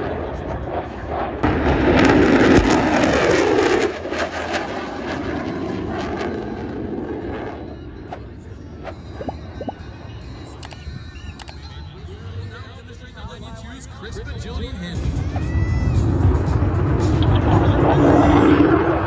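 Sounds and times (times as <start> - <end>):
jet aircraft flying past: 0.0 - 10.5, 12.9 - 19.0.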